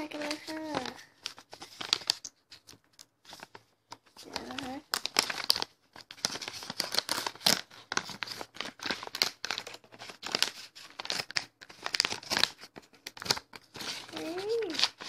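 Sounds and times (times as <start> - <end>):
parcel wrapping crinkling: 0.0 - 15.0.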